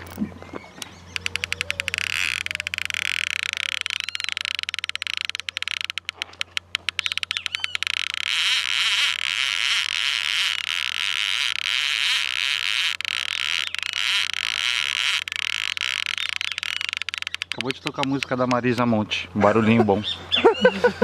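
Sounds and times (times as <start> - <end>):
fishing reel drag clicking: 0.8 - 18.9.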